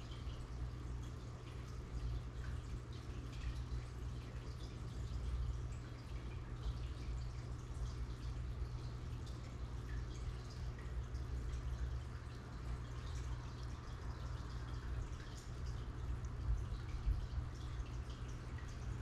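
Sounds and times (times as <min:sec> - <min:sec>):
aquarium water bubbling: 0:00.0 - 0:19.0
steady low hum: 0:00.0 - 0:19.0.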